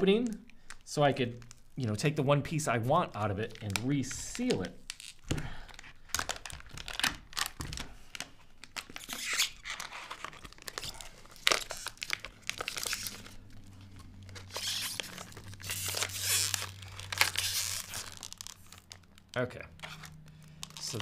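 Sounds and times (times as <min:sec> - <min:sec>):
plastic film crinkling and tearing: 0:00.0 - 0:21.0.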